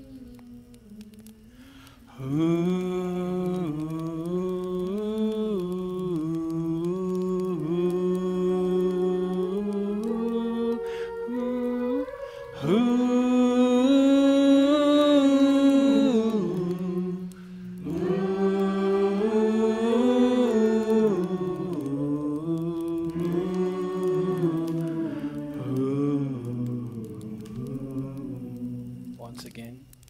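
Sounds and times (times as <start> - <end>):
slow worship song singing: 0.0 - 30.0.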